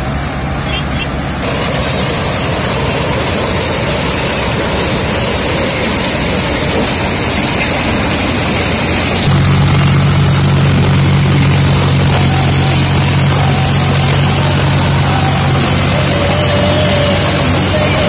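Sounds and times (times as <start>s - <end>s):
diesel tractor engine drone: 0.0s - 18.0s
harvester cutting dry stalks: 0.0s - 18.0s.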